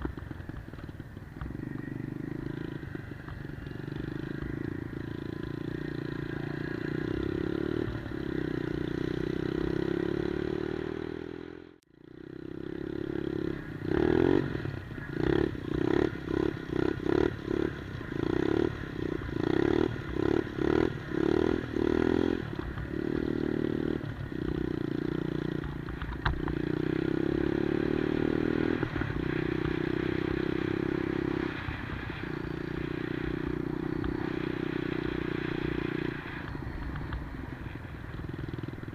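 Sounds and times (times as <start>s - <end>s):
minibike engine running: 0.0s - 38.9s.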